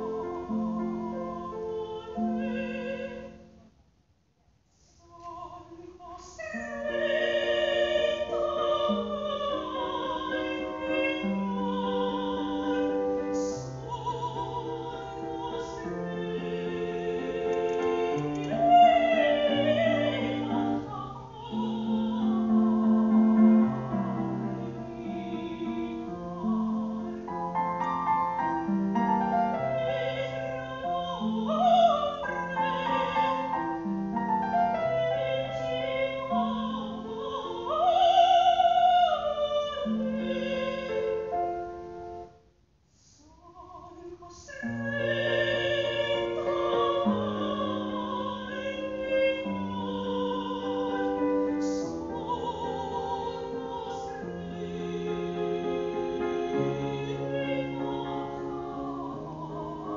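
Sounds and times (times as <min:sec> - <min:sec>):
operatic soprano singing: 0:00.0 - 0:03.6, 0:05.0 - 0:42.2, 0:43.2 - 0:59.9
piano accompaniment: 0:00.0 - 0:03.6, 0:06.6 - 0:42.5, 0:44.6 - 0:59.9.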